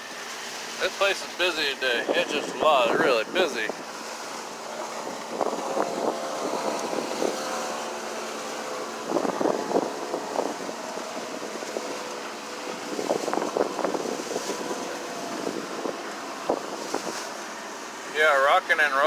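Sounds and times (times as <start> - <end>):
water splashing against hull: 0.0 - 18.1
boat motor running: 0.0 - 19.0
wind on microphone: 1.8 - 17.7.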